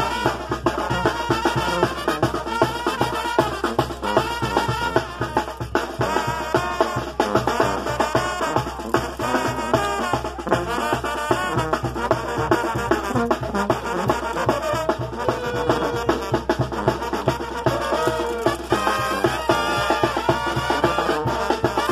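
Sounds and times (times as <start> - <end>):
brass band dance tune: 0.0 - 21.9
steady drum beat: 0.0 - 21.9.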